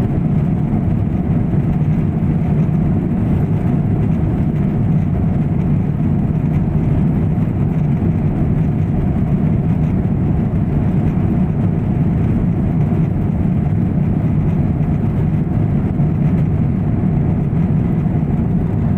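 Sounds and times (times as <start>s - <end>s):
airliner cabin engine drone: 0.0s - 18.9s.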